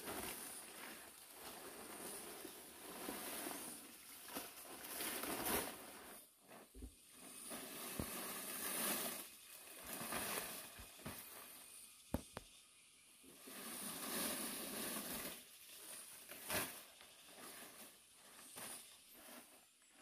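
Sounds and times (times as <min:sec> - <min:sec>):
rustling and scraping: 0:00.0 - 0:12.4, 0:13.3 - 0:20.0.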